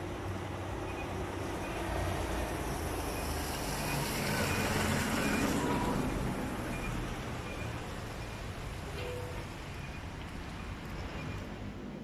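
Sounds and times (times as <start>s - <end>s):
vehicle passing with road noise: 0.0s - 12.0s.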